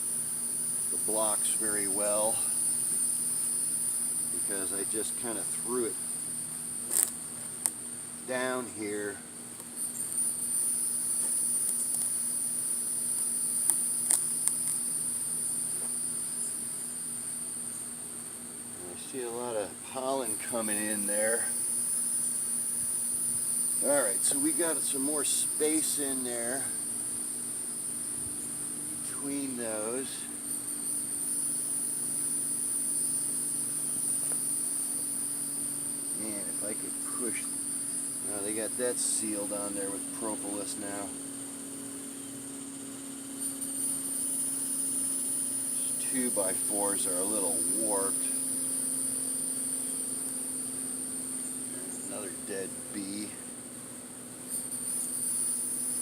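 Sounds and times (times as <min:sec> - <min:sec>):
honeybees humming: 0:00.0 - 0:56.0
insects chirring: 0:00.0 - 0:56.0.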